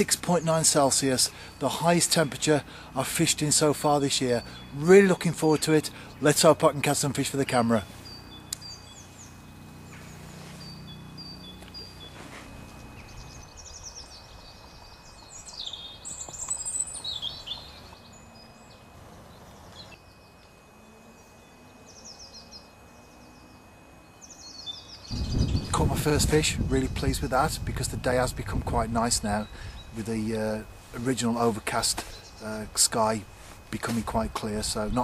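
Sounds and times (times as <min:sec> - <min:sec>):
faint outdoor hiss: 0:00.0 - 0:35.0
songbirds chirping: 0:00.0 - 0:35.0.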